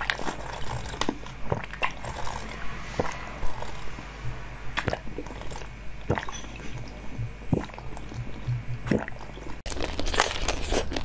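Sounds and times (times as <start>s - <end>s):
jelly slurping: 0.0s - 3.9s, 4.8s - 11.0s.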